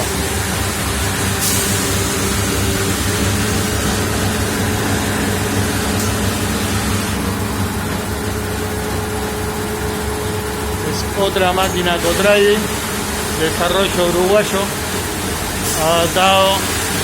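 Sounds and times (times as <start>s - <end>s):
pumps and motors humming: 0.0s - 17.0s
water spraying: 0.0s - 17.0s.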